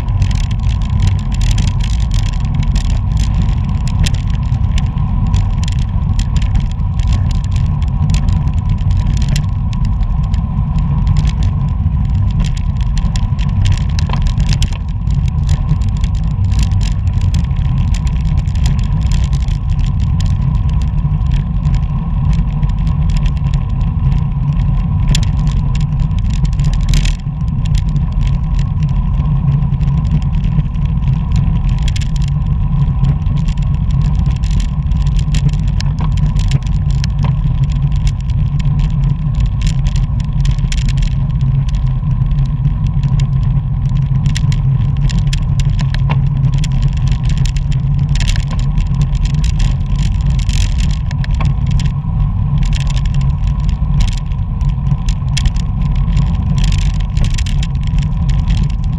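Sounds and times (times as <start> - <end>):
road and tyre noise: 0.0 - 58.9
wind rushing over microphone: 0.0 - 58.9
light ticks: 0.1 - 10.4, 11.1 - 58.9.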